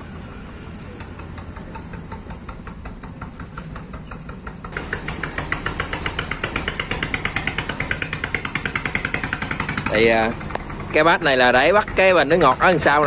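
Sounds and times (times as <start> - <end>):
engine chugging: 0.0 - 13.0.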